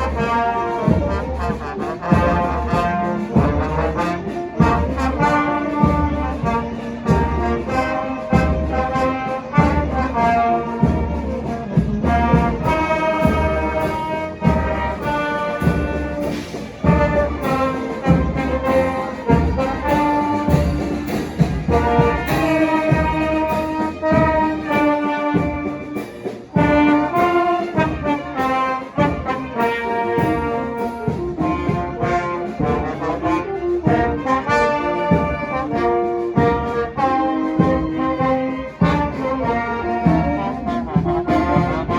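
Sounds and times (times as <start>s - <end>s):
brass band playing a tune: 0.0s - 41.9s
steady drum beat: 0.0s - 41.9s.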